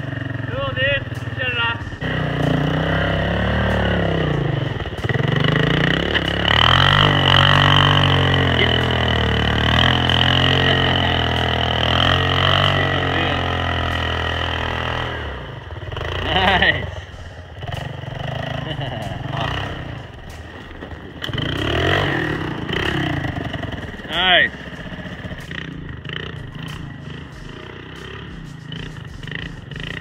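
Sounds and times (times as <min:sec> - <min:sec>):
four-stroke engine revving: 0:00.0 - 0:30.0.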